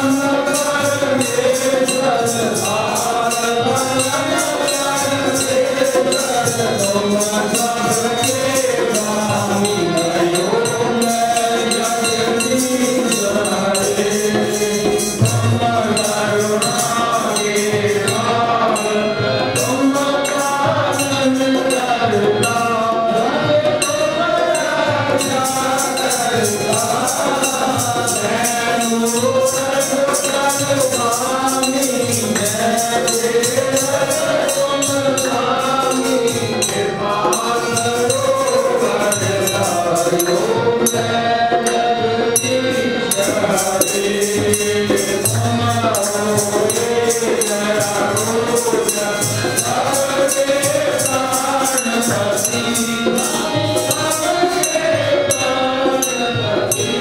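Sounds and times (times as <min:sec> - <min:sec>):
group devotional singing: 0:00.0 - 0:57.0
hand percussion jingling: 0:00.0 - 0:57.0.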